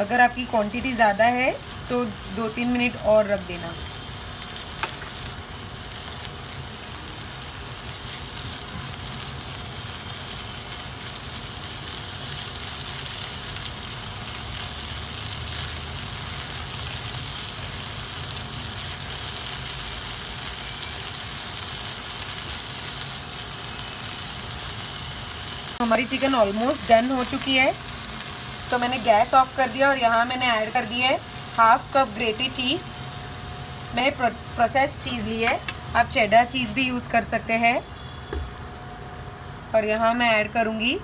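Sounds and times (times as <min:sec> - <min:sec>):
meat sizzling in a pan: 0:00.0 - 0:38.6.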